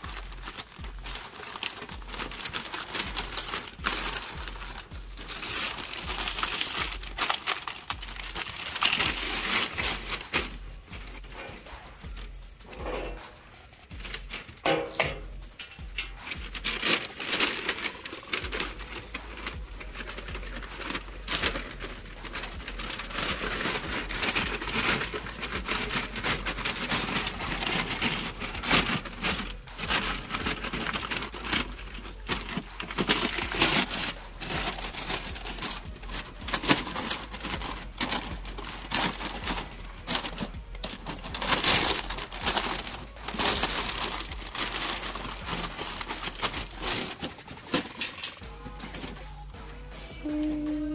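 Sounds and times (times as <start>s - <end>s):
paper crinkling and rustling: 0.0s - 49.7s.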